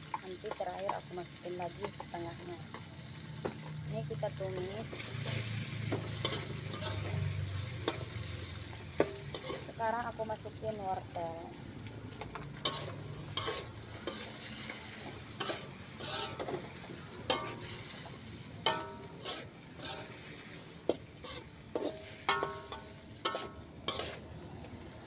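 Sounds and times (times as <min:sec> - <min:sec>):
frying sizzle: 0:00.0 - 0:25.0
metal spatula scraping wok: 0:00.1 - 0:11.5, 0:12.2 - 0:25.0.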